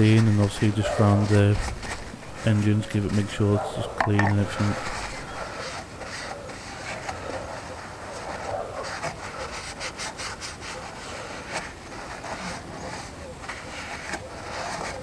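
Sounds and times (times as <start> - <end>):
paper towel wiping and scraping: 0.0 - 15.0.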